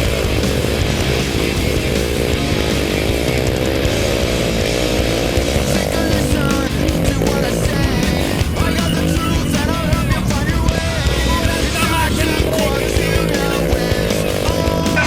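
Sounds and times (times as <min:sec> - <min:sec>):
motorbike engine revving: 0:00.0 - 0:15.0
rock music: 0:00.0 - 0:15.0.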